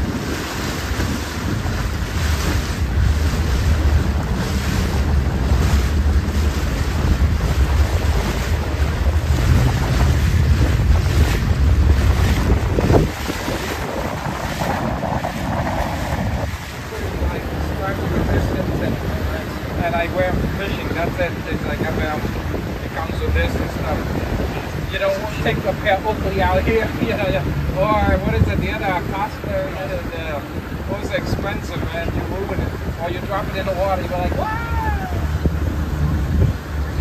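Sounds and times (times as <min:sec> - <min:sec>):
low rumble of boat and water: 0:00.0 - 0:37.0
wind buffeting microphone: 0:00.0 - 0:37.0.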